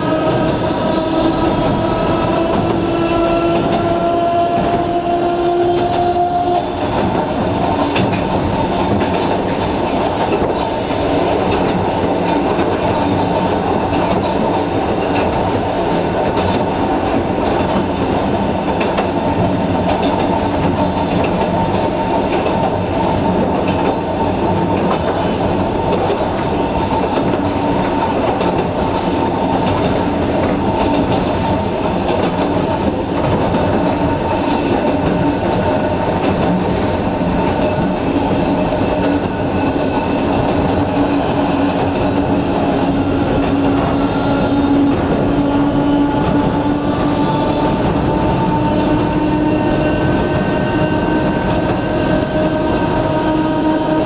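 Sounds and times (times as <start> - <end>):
train rumble: 0.0 - 54.0
wheels clacking over rails: 0.0 - 54.0.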